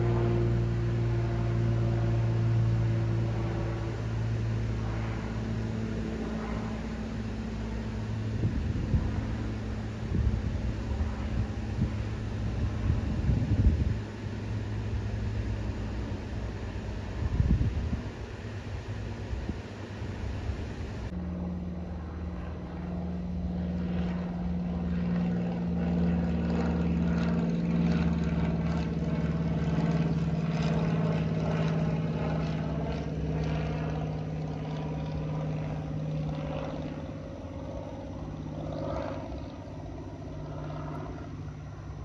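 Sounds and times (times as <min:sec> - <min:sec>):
airplane engines droning overhead: 0:00.0 - 0:42.0.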